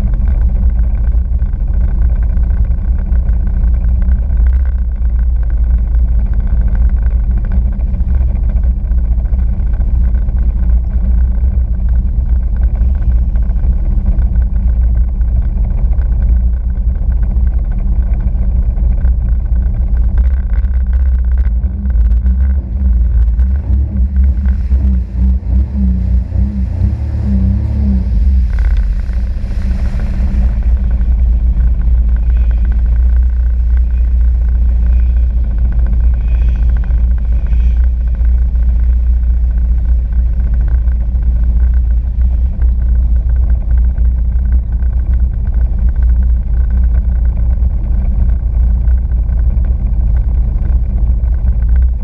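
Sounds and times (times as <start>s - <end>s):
jet ski engine drone: 0.0s - 52.0s.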